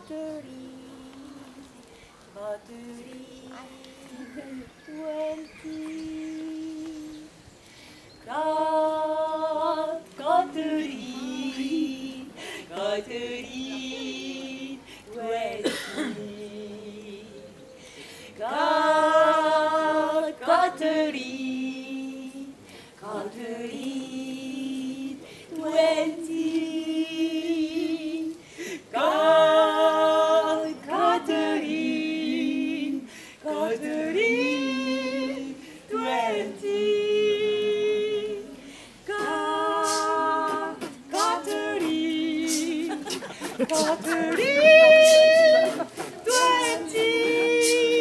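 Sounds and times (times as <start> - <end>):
voices singing unaccompanied: 0.0 - 48.0.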